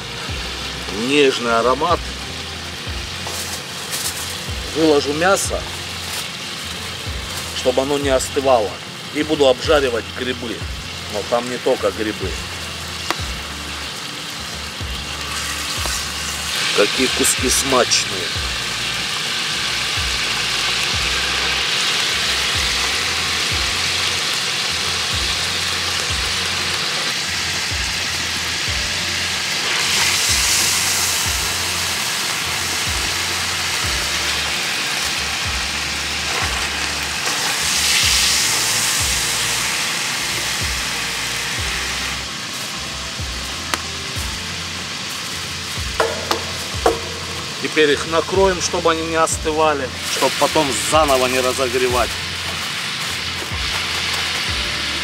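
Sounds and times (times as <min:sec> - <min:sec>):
fat sizzling in a frying pan: 0:00.0 - 0:55.0
low background music: 0:00.0 - 0:55.0.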